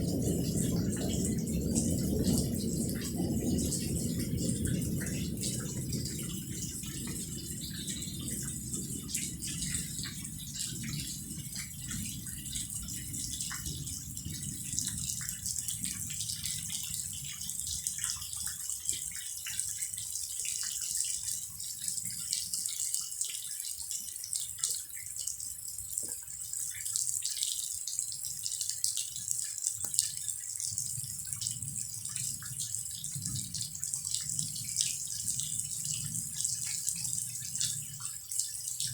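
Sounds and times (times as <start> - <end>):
rain falling with drips: 0.0 - 38.9.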